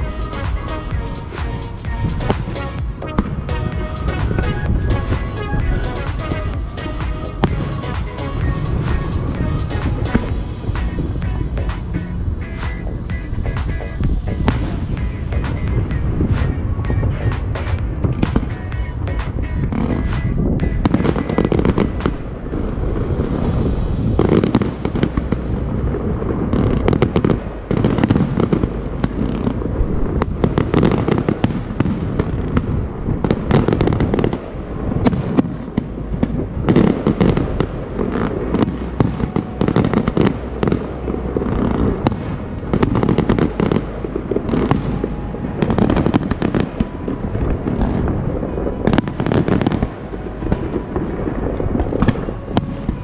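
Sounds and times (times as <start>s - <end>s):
distant fireworks bangs and crackles: 0.0s - 53.0s.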